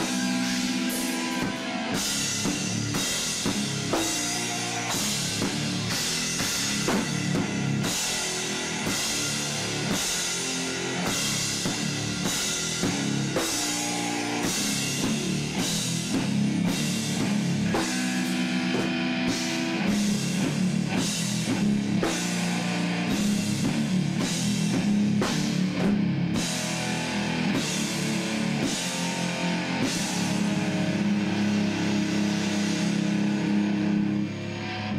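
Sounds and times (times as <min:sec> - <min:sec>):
bass guitar: 0:00.0 - 0:34.9
drum kit beat with cymbals: 0:00.0 - 0:34.9
electric guitars: 0:00.0 - 0:34.9.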